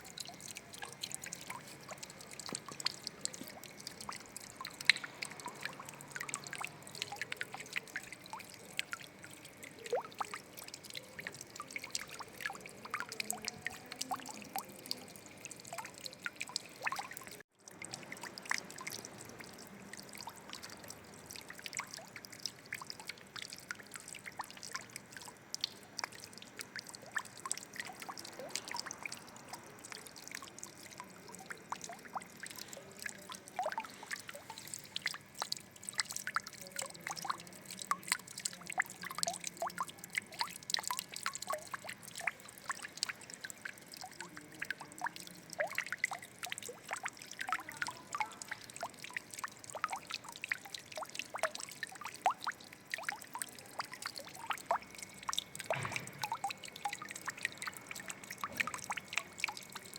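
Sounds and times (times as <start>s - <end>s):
water trickling and dripping: 0.0s - 59.9s.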